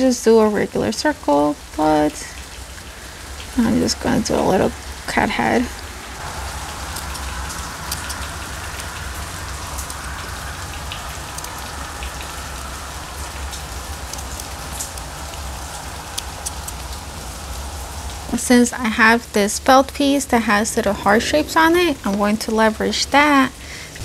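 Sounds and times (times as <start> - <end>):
steady hiss: 1.8 - 24.0.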